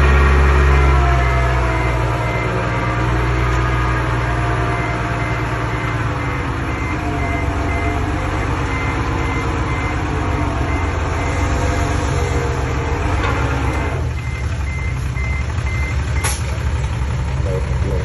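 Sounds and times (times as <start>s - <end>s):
reversing alarm beeping: 0.0s - 12.8s, 13.8s - 16.4s
bulldozer diesel engine running: 0.0s - 18.0s.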